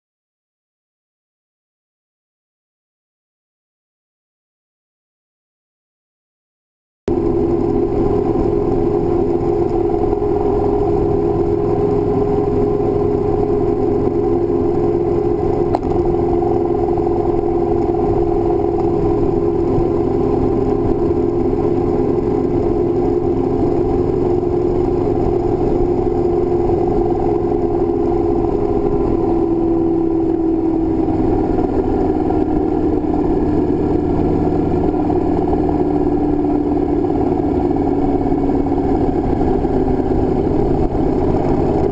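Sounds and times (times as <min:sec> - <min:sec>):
motorcycle engine running: 0:07.1 - 0:41.9
wind and road noise: 0:07.1 - 0:41.9.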